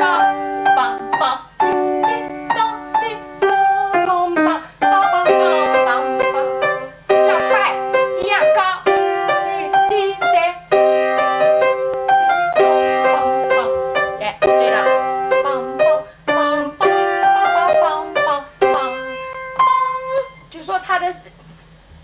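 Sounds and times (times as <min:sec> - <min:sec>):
piano staccato phrase: 0:00.0 - 0:20.5.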